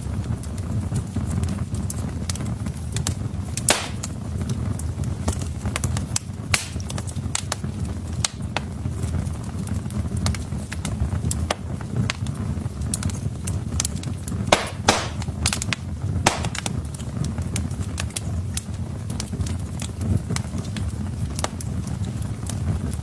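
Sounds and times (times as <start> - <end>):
fire crackling and popping: 0.0 - 23.0
low rumble of burning logs: 0.0 - 23.0.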